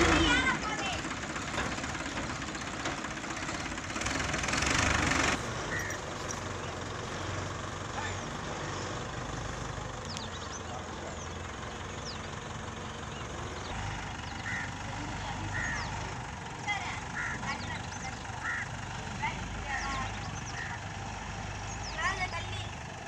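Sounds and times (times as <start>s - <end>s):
heavy vehicle engine idling: 0.0s - 23.0s.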